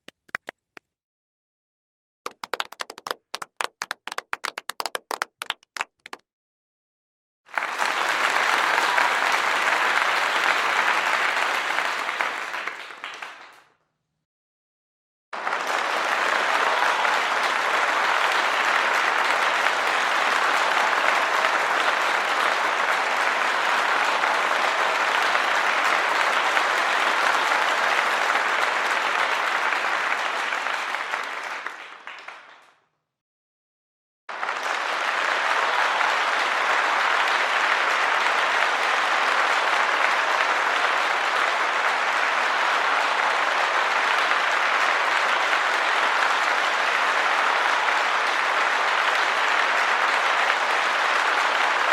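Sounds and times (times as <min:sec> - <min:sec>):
crowd applause: 0:02.3 - 0:06.2, 0:07.5 - 0:13.7, 0:15.4 - 0:32.7, 0:34.3 - 0:51.9.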